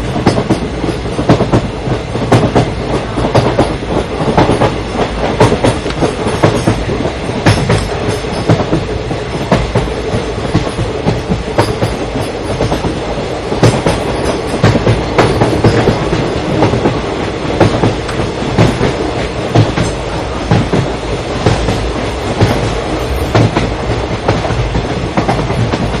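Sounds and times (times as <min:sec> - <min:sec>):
train wheels rumbling on track: 0:00.0 - 0:26.0
wheels clacking on rail joints: 0:00.0 - 0:26.0.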